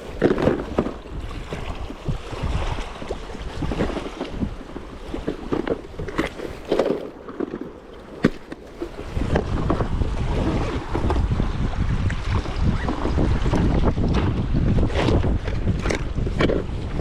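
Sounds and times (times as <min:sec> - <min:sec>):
wind buffeting microphone: 0:00.0 - 0:06.9, 0:07.9 - 0:17.0
water knocking and splashing: 0:00.0 - 0:17.0.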